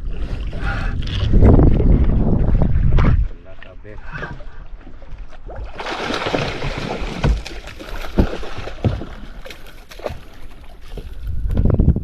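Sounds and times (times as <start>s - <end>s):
water splashing around boat: 0.0s - 12.0s.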